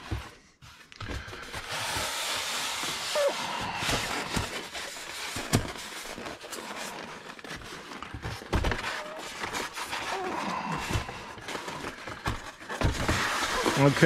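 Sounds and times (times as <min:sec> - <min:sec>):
foam scraping against cardboard: 0:01.4 - 0:14.0.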